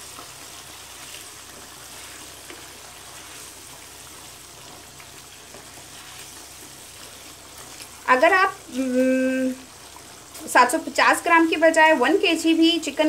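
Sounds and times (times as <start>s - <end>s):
curry sizzling and bubbling: 0.0s - 13.0s.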